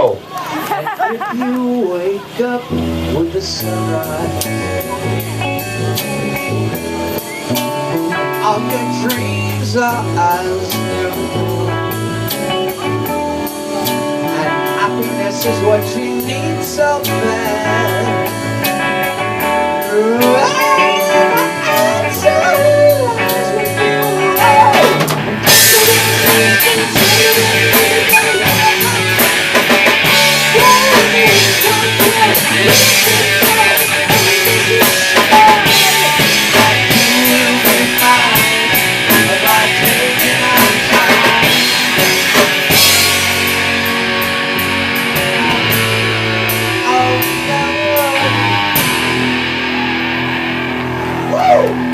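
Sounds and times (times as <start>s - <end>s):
rock guitar bending notes: 1.6s - 51.9s
drum kit and cymbals: 2.8s - 50.2s.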